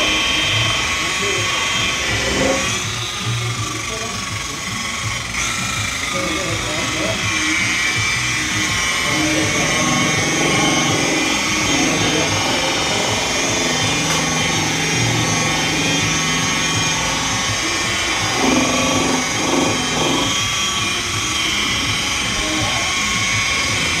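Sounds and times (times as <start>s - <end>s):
electric polisher whining: 0.0s - 24.0s.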